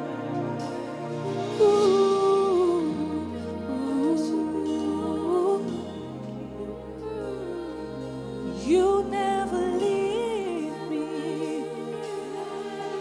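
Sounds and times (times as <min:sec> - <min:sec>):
sustained instrumental chords: 0:00.0 - 0:13.0.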